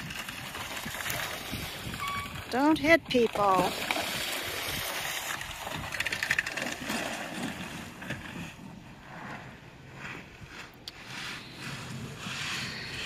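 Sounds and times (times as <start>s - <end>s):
snow plow scraping through snow: 0.0s - 13.0s.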